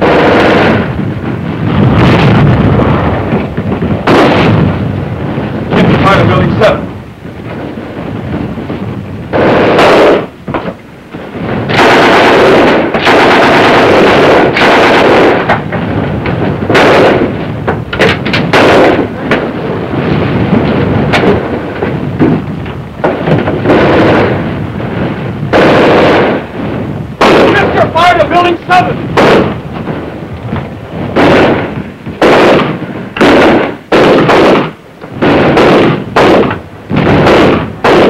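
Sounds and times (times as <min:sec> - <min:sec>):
small-arms gunfire bursts: 0:00.0 - 0:01.0, 0:01.8 - 0:04.8, 0:09.3 - 0:10.8, 0:11.6 - 0:26.5, 0:27.2 - 0:38.0
explosion blasts: 0:00.0 - 0:38.0.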